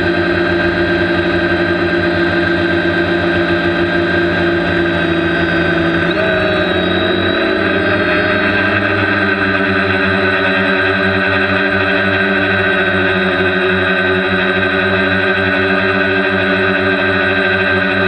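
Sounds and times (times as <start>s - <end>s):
drone propellers whirring: 0.0s - 18.0s.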